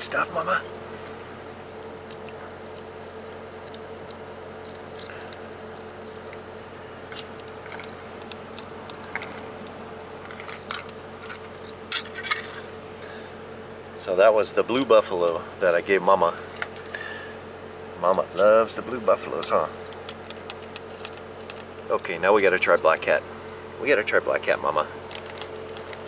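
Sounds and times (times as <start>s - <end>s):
cat chewing and crunching food: 0.0s - 13.7s, 17.9s - 26.0s
steady background hum: 0.0s - 26.0s.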